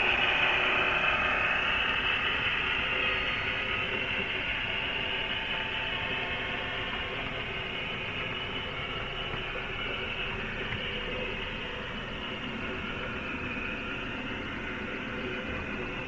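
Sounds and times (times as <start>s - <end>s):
model train whirring rumble: 0.0s - 16.0s.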